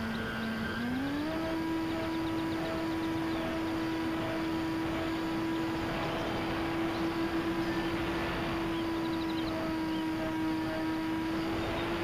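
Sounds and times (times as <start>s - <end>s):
model airplane propellers droning: 0.0s - 12.0s.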